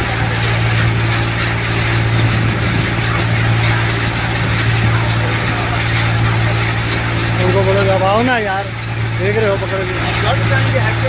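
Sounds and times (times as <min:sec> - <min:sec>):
thresher humming: 0:00.0 - 0:11.0.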